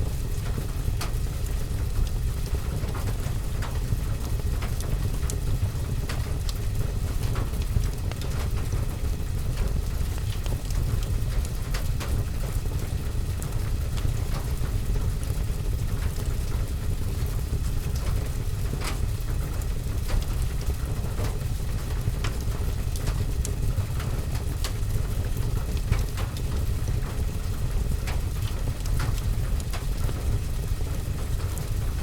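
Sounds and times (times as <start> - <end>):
rain on a window and roof: 0.0 - 32.0
fire crackling: 0.1 - 32.0.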